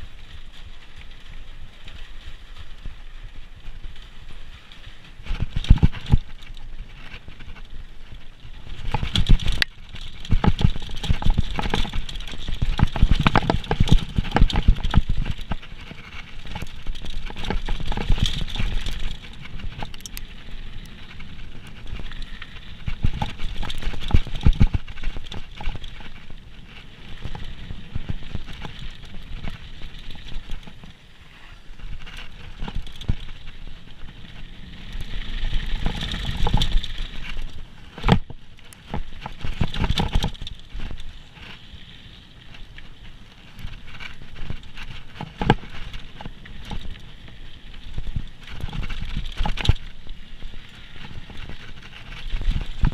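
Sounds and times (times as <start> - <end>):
mountain bike rattling over trail: 0.0 - 52.9.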